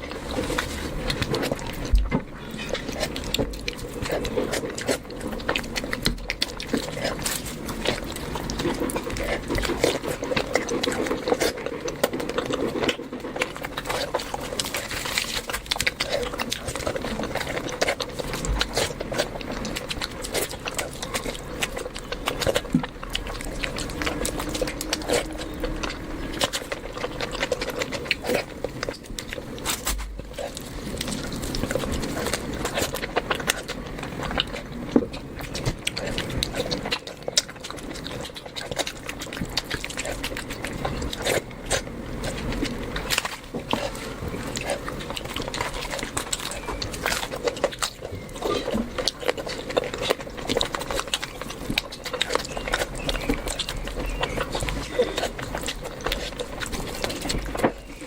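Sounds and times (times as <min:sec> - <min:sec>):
person chewing and lip-smacking: 0:00.0 - 0:58.0.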